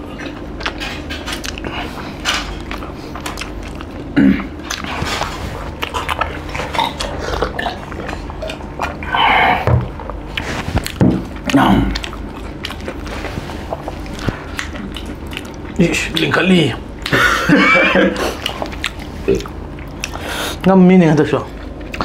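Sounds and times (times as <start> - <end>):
people chewing and smacking: 0.0 - 22.0.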